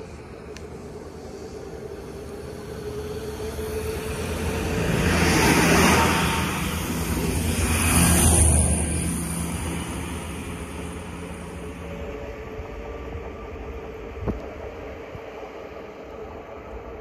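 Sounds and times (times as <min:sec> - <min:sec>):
diesel railcar engine drone: 0:00.0 - 0:17.0
train wheel noise: 0:00.0 - 0:17.0.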